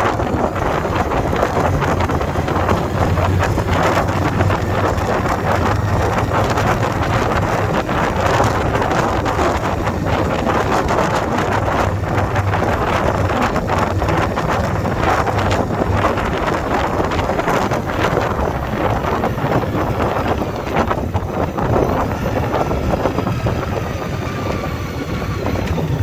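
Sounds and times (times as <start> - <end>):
motorcycle engine drone: 0.0 - 26.0
wind buffeting microphone: 0.0 - 26.0.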